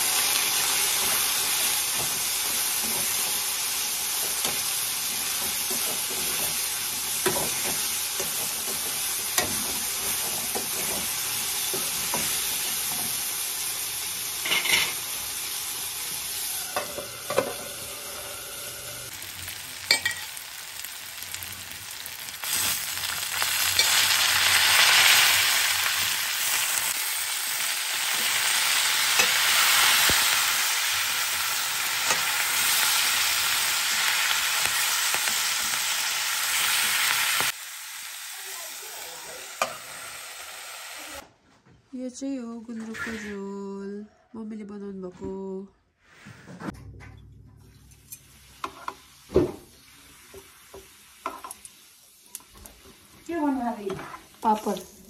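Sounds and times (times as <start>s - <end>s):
food sizzling in a wok: 0.0s - 41.3s, 48.0s - 55.0s.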